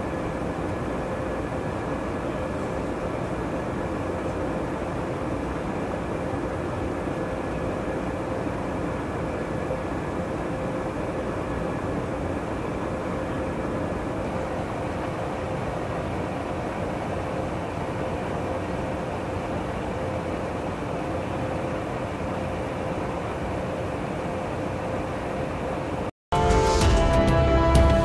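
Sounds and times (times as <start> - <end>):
aircraft cabin engine drone: 0.0 - 28.0.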